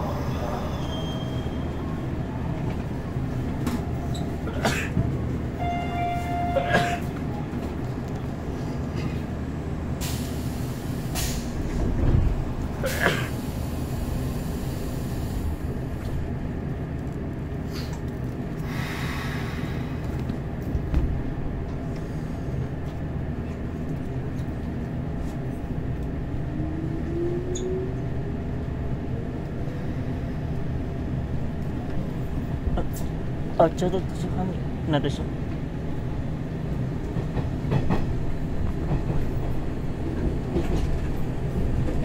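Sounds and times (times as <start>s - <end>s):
train low rumble: 0.0s - 42.0s.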